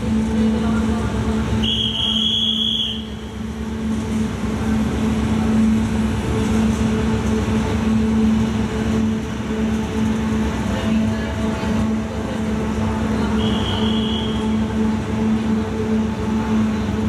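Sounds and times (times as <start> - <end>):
train coaches rumbling: 0.0 - 17.0.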